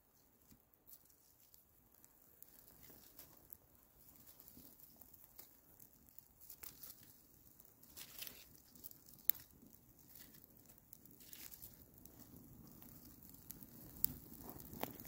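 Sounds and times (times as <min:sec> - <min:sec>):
small fire crackling: 0:00.0 - 0:15.0.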